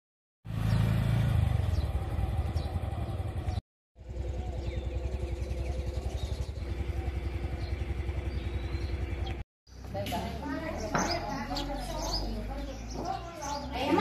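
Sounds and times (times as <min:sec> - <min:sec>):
road rumble: 0:00.4 - 0:14.0
small motorcycle engine: 0:00.5 - 0:12.2.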